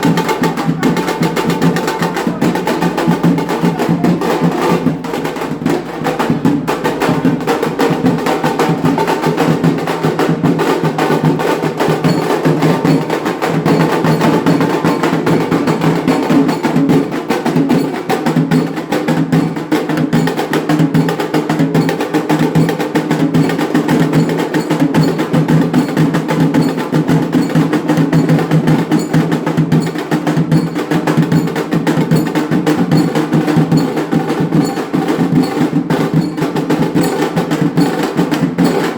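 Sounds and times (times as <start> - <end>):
fast dense drumming: 0.0 - 38.9.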